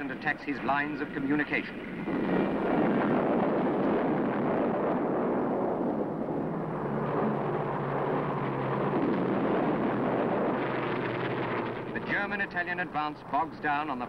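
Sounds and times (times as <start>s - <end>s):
rumbling bombardment explosions: 0.7s - 13.0s.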